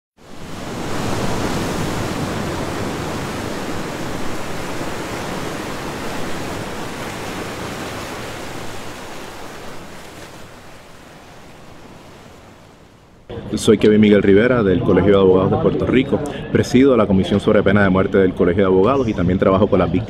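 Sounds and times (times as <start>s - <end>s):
rushing water: 0.2s - 20.0s.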